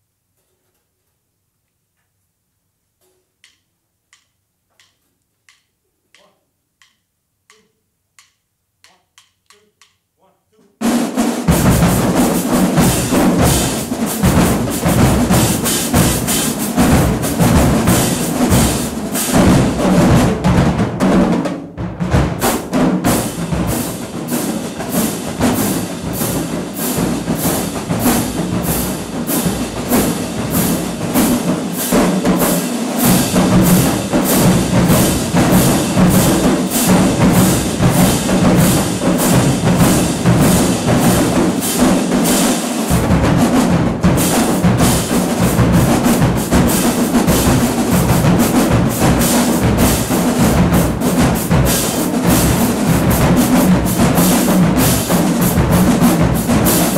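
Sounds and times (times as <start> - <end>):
cymbals: 10.8 - 56.9
marching drumline playing: 10.8 - 56.9.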